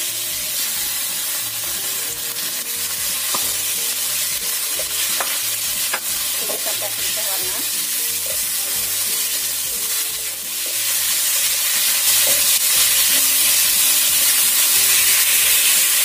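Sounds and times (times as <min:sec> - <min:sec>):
chicken sizzling in hot oil: 0:00.0 - 0:16.0
wooden spatula stirring in wok: 0:00.3 - 0:15.6.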